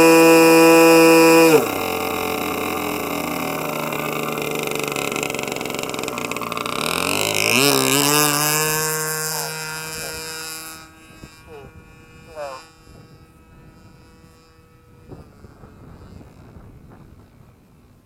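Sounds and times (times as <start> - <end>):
model plane engine revving: 0.0 - 18.0.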